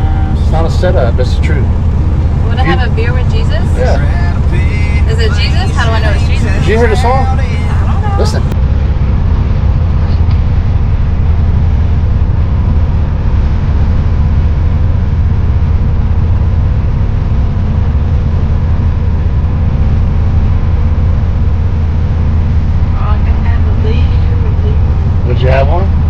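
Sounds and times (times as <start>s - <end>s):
truck engine rumble in cab: 0.0s - 26.0s.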